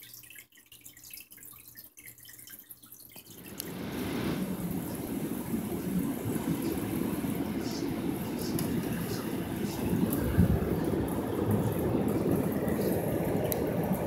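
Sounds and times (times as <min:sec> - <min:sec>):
bubbling water: 0:00.0 - 0:14.0
water dripping: 0:00.0 - 0:14.0.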